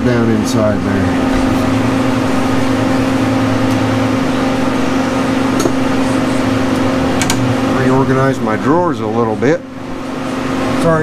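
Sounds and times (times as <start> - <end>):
heater humming: 0.0 - 11.0.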